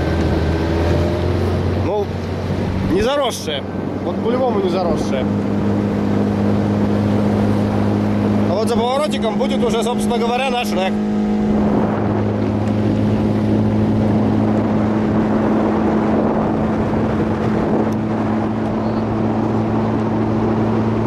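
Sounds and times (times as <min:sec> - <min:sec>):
outboard motor droning: 0:00.0 - 0:21.0.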